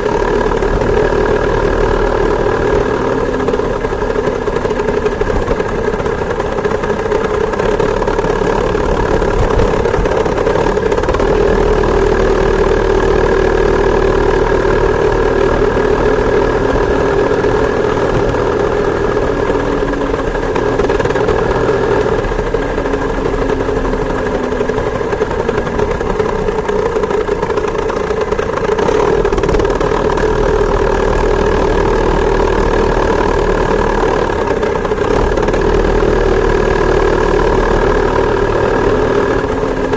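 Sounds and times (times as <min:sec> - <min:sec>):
two-stroke engine buzzing: 0:00.0 - 0:39.9.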